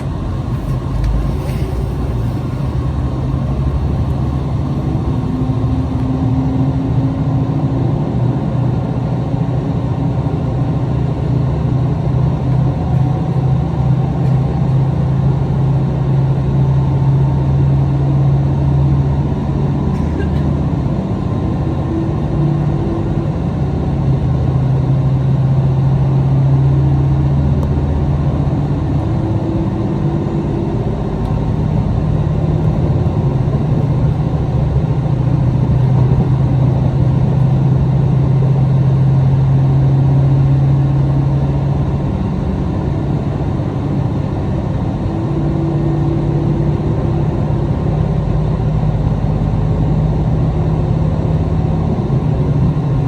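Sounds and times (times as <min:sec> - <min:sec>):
low diesel engine hum: 0:00.0 - 0:53.0
train rumbling in motion: 0:00.0 - 0:53.0.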